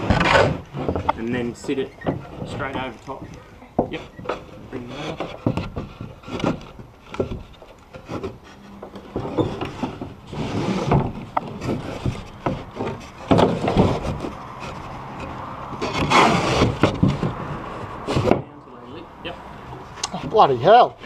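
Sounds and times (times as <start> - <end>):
wooden frames scraping and knocking: 0.0 - 21.0.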